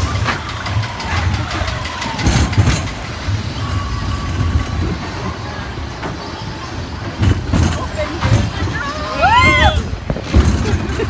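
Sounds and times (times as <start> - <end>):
large vehicle engine rumbling: 0.0 - 11.0.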